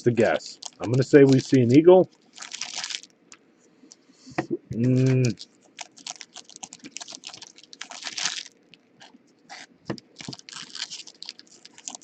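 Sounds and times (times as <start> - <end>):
card packaging crinkling: 0.2 - 3.2, 4.8 - 12.0.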